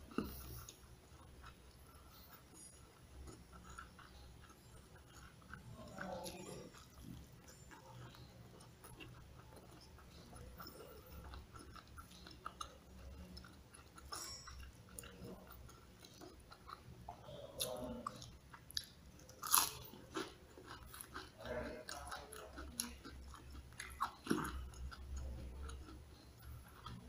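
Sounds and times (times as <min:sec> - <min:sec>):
chewing and crunching fried chicken: 0:00.0 - 0:27.0.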